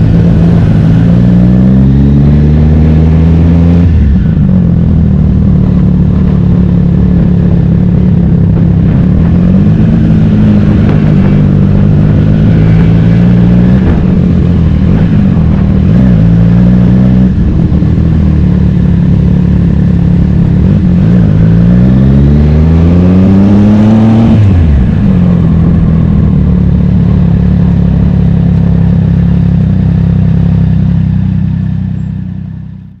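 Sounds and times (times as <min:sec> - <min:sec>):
racing motorcycle engine revving: 0:00.0 - 0:32.7.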